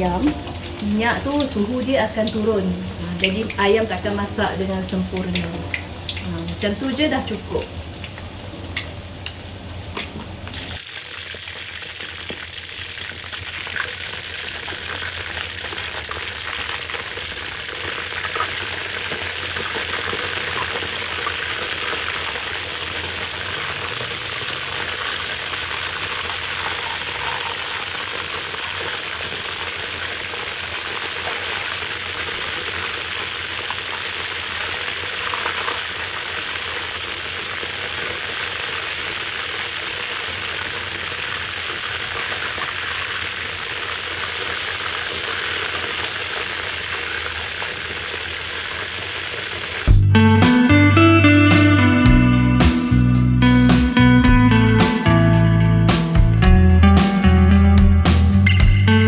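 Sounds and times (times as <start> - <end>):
chicken deep-frying in oil: 0.0 - 49.9.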